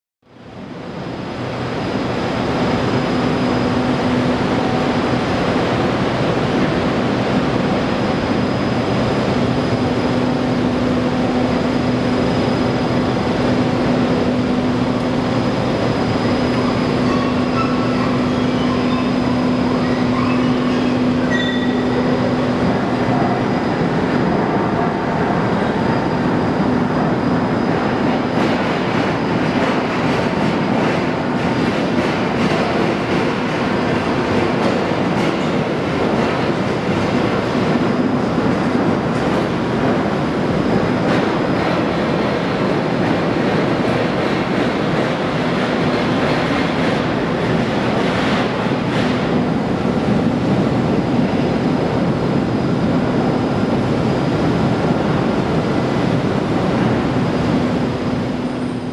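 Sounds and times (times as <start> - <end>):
loud machine noise: 0.4 - 58.9
steady hum: 0.4 - 58.9.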